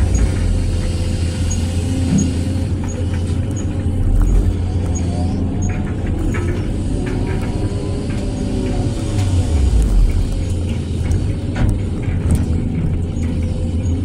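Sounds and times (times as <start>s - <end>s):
excavator diesel engine running: 0.0s - 14.0s
hydraulics whining: 0.0s - 14.0s.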